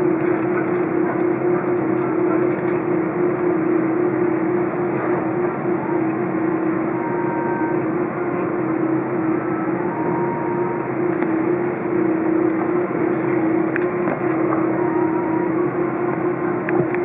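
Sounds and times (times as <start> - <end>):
airliner cabin rush: 0.0 - 17.0
constant droning tone: 0.0 - 17.0.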